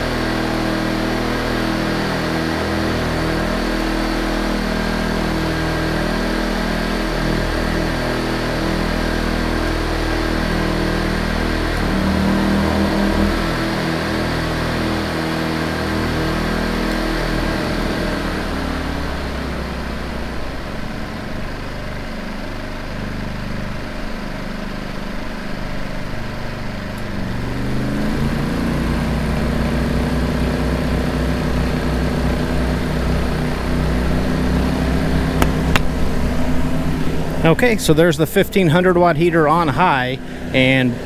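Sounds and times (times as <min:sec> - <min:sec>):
generator engines running: 0:00.0 - 0:41.0.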